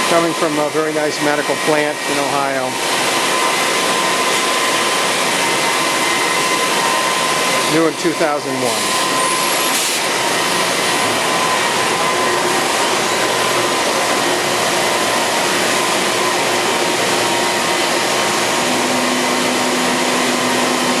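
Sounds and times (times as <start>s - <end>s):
lathe machine hiss: 0.0s - 21.0s.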